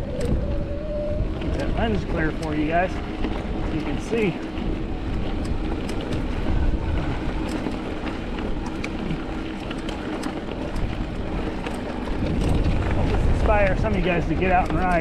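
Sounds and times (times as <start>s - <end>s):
gravel and bike rattles: 0.0s - 15.0s
tyre rumble: 0.0s - 15.0s
wind buffeting microphone: 0.0s - 15.0s.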